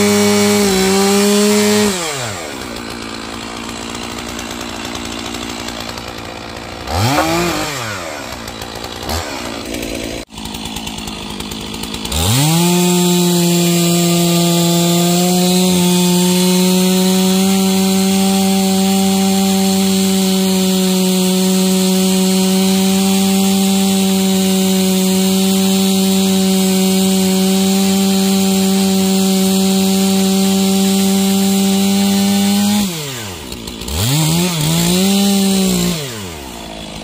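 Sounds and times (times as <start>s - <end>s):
chainsaw revving: 0.0s - 37.0s.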